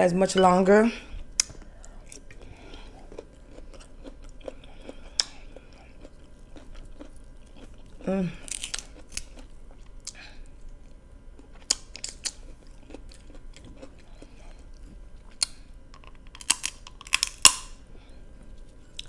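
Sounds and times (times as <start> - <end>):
crab shell cracking and crunching: 1.4 - 14.3, 15.2 - 17.8
chewing and mouth sounds: 1.4 - 17.5.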